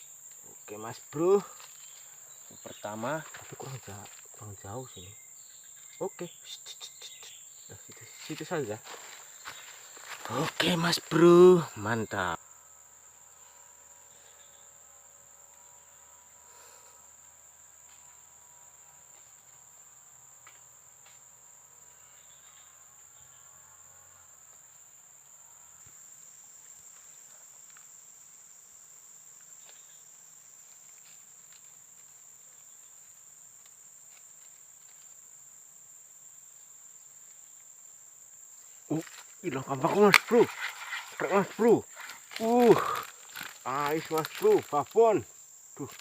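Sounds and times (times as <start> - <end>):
crickets chirping: 0.0 - 46.0.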